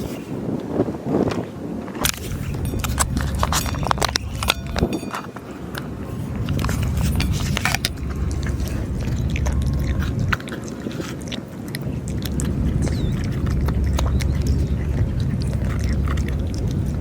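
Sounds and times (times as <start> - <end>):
cats chewing food: 2.0 - 17.0
low rumble: 2.0 - 17.0.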